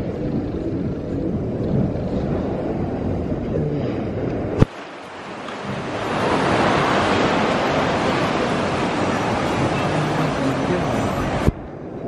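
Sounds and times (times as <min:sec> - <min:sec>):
waves rushing and breaking: 0:00.0 - 0:12.0
wind rumble on microphone: 0:00.0 - 0:12.0.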